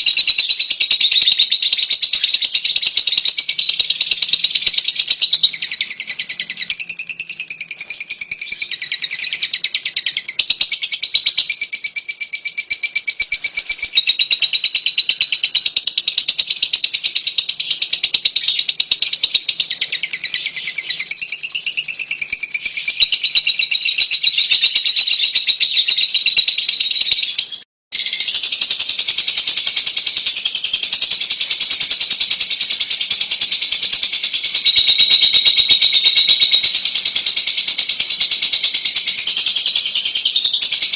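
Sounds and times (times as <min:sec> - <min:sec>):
bird twittering chatter: 0:00.0 - 0:40.9.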